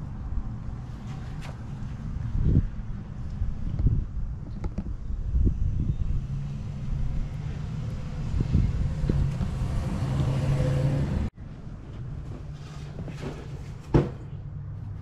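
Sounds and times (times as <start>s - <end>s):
motor vehicle engine rumble: 0.0s - 15.0s.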